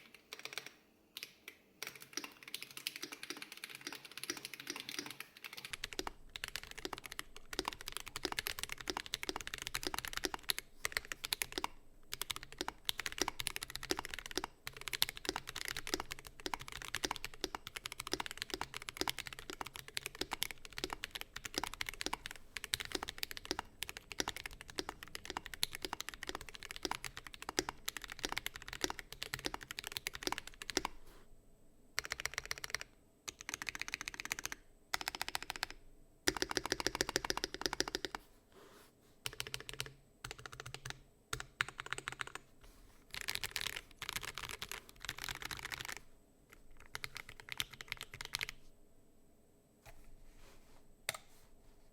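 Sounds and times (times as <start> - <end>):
mechanical keyboard typing: 0.0 - 31.0, 32.0 - 38.2, 39.2 - 42.4, 43.1 - 48.6.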